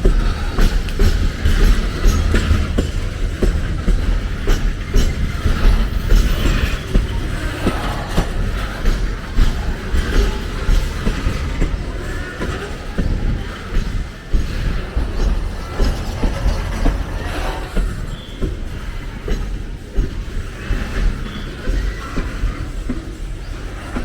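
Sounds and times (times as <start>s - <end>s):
train rumbling past: 0.0s - 24.0s
wheels clacking over rail joints: 0.0s - 24.0s.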